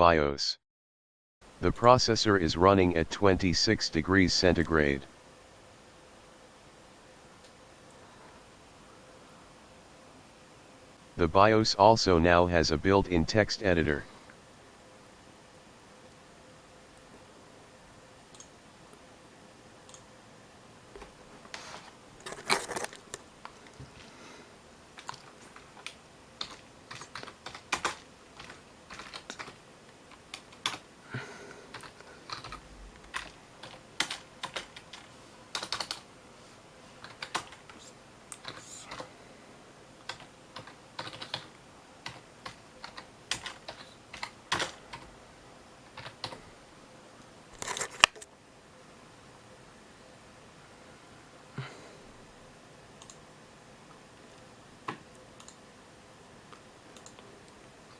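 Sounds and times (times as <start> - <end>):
faint steady hum: 1.4 - 57.9.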